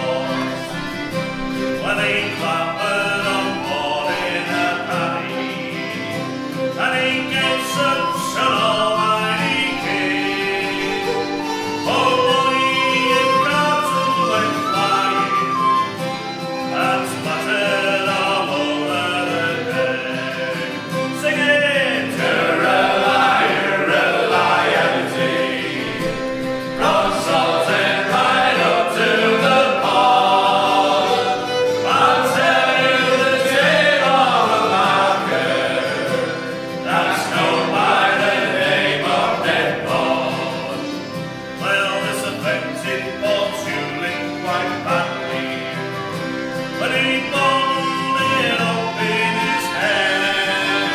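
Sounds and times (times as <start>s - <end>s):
group singing a sea shanty: 0.0s - 50.9s
instrumental accompaniment: 0.0s - 50.9s.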